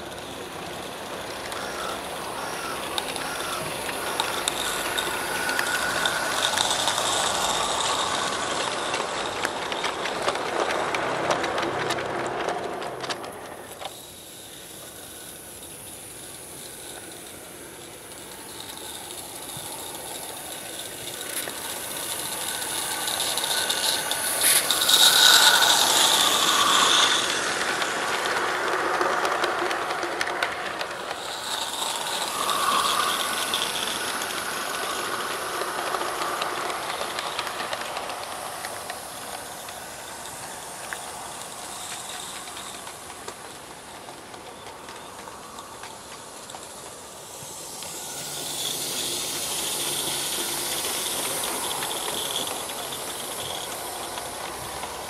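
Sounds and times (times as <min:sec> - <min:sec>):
steam hissing: 0:00.0 - 0:55.0
wagons rolling on track: 0:00.0 - 0:55.0.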